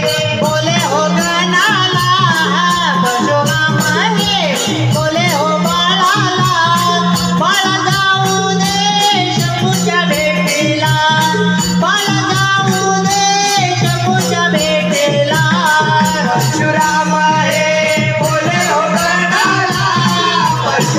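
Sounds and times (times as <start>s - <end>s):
percussion beat: 0.0s - 20.9s.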